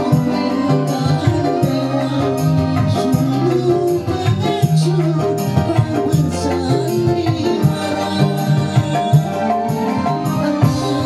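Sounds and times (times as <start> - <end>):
hand drum beat: 0.0 - 11.0
keyboard melody: 0.0 - 11.0
man singing: 0.0 - 11.0.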